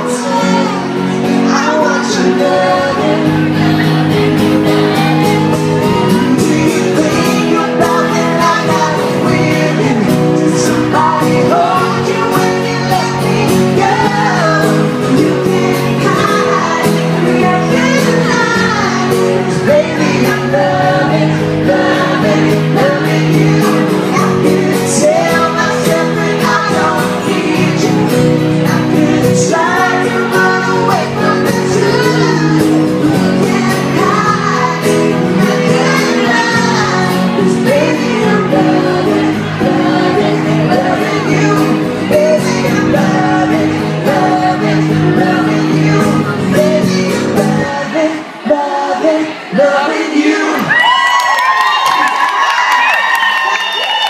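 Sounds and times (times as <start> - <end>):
woman singing into a microphone: 0.0 - 4.0, 4.8 - 50.8
guitar accompaniment: 0.0 - 54.0.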